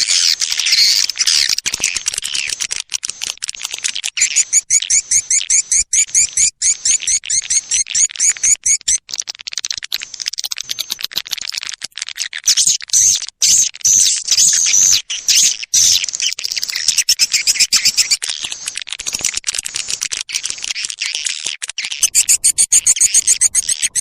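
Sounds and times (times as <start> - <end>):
recorded swiftlet chattering call: 0.0 - 24.0.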